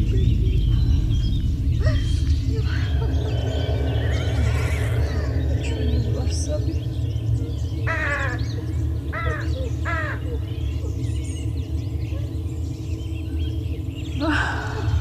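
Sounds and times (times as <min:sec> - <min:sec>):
loud bird calls: 0:00.0 - 0:15.0
low steady hum: 0:00.0 - 0:15.0
small birds chirping: 0:00.0 - 0:15.0.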